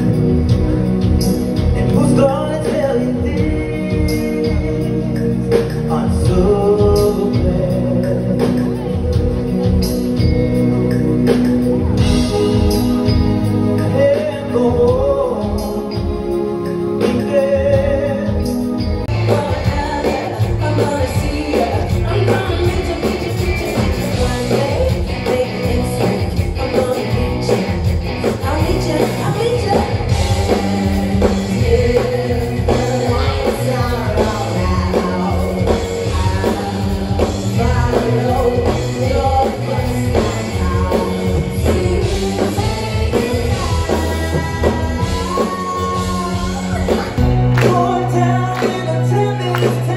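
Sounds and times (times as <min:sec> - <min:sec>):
drums: 0:00.0 - 0:49.9
electric guitar: 0:00.0 - 0:49.9
lead vocals singing: 0:01.6 - 0:09.8, 0:13.8 - 0:49.9.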